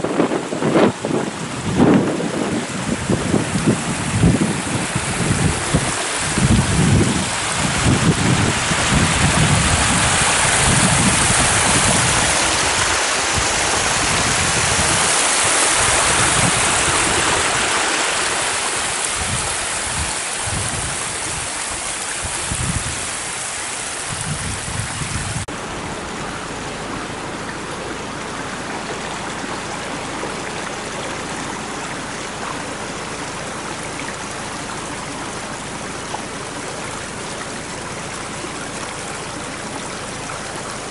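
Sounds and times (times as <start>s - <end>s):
shallow stream flowing: 0.0s - 40.9s
water rushing over rocks: 0.0s - 40.9s.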